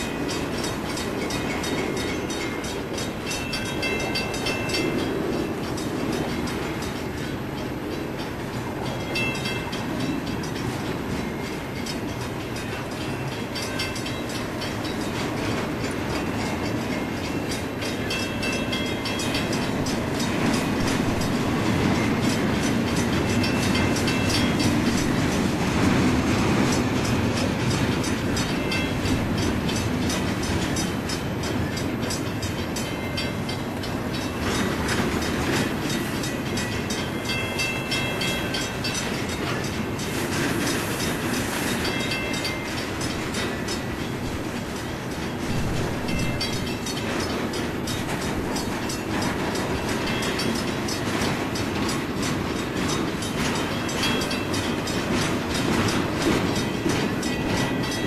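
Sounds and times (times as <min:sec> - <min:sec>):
freight train rumbling past: 0:00.0 - 0:58.0
wheel clatter over rails: 0:00.0 - 0:58.0.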